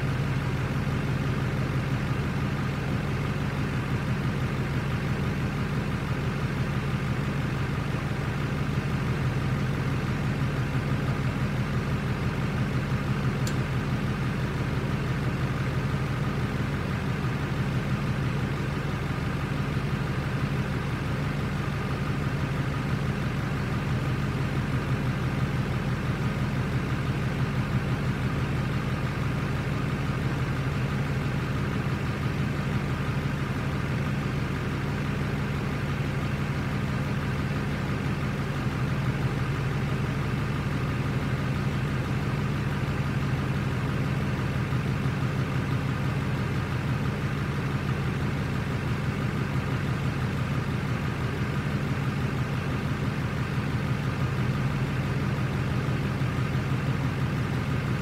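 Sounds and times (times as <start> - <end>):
pickup truck engine idling: 0.0 - 58.0.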